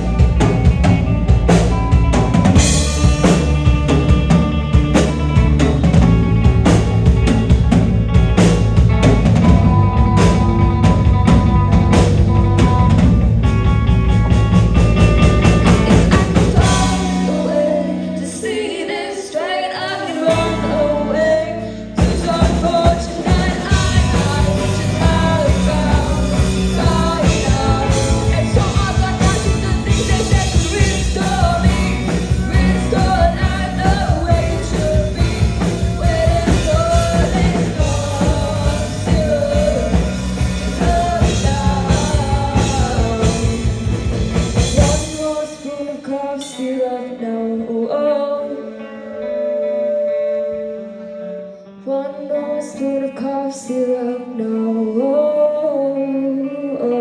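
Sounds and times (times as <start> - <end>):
live rock band with singer: 0.0 - 57.0.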